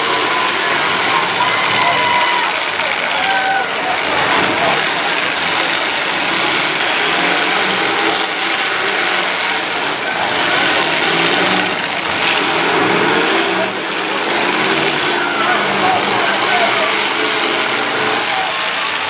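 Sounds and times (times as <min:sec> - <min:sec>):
car engines revving hard: 0:00.0 - 0:19.0.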